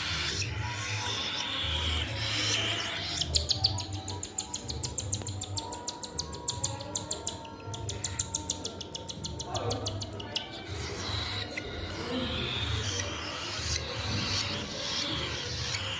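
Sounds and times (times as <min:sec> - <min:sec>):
bird chick begging chirps: 0:00.0 - 0:15.9.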